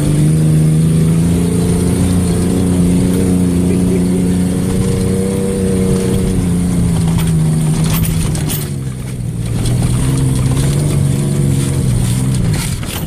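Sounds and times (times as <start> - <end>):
pickup truck engine under throttle: 0.0 - 13.0.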